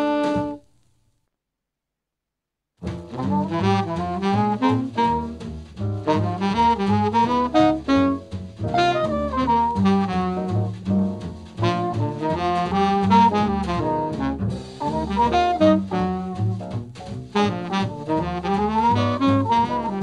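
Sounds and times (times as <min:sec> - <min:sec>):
double bass: 0:00.0 - 0:00.6, 0:02.8 - 0:20.0
saxophone and brass melody: 0:00.0 - 0:00.6, 0:03.1 - 0:16.7, 0:17.3 - 0:20.0
drums: 0:00.0 - 0:01.0, 0:02.8 - 0:20.0.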